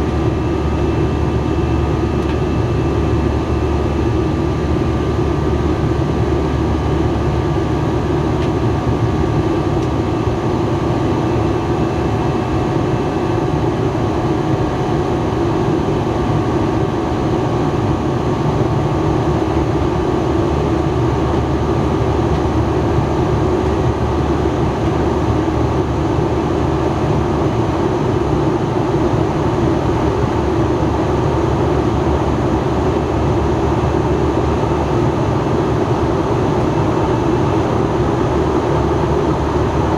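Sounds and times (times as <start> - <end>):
jet cabin engine drone: 0.0 - 39.9.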